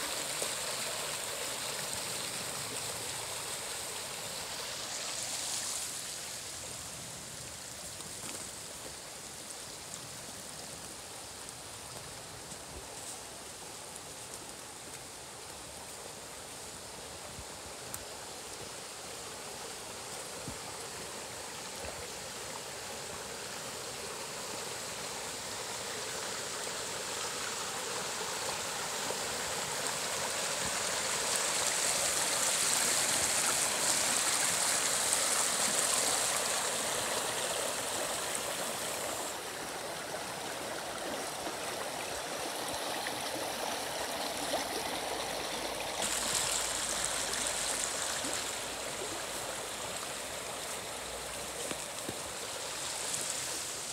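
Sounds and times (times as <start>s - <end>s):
stream gurgling over stones: 0.0s - 53.9s.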